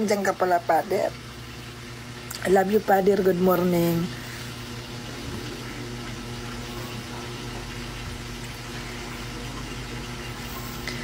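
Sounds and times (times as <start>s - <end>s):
low even hum: 0.0s - 11.0s.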